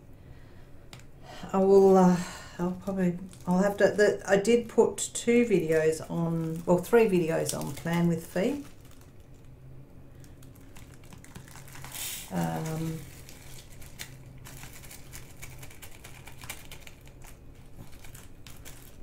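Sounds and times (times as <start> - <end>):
plastic bags crinkling: 3.1 - 19.0.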